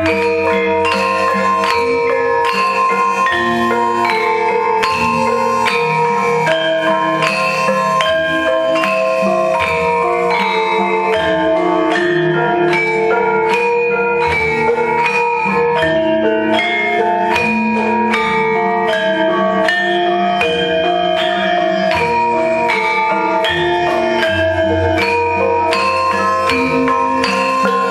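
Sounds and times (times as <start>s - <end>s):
gamelan metallophones playing: 0.0s - 27.9s.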